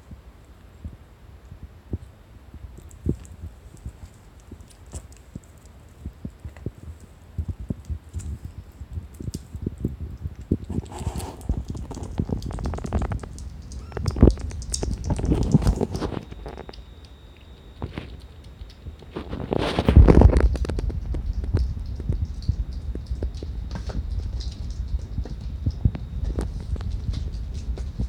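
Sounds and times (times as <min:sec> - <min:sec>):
kitten licking food dish: 0:02.8 - 0:28.0.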